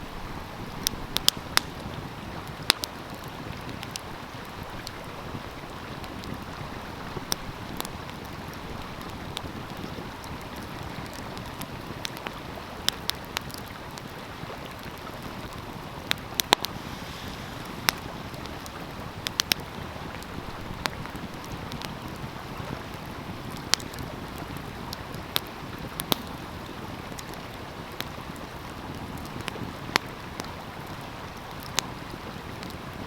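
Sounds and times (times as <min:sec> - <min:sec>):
flowing stream: 0:00.0 - 0:33.0
wood fire crackling: 0:00.0 - 0:33.0.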